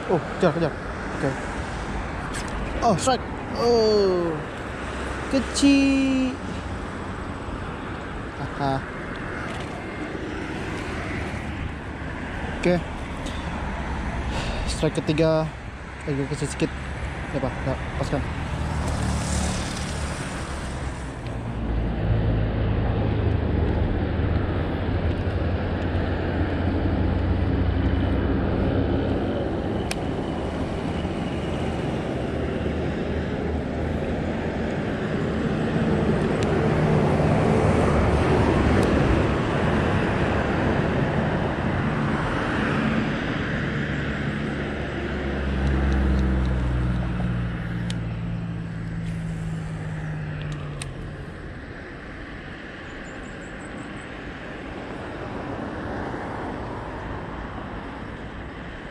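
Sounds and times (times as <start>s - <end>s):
steady outdoor rumble: 0.0s - 58.9s
vehicles passing close by: 0.0s - 58.9s.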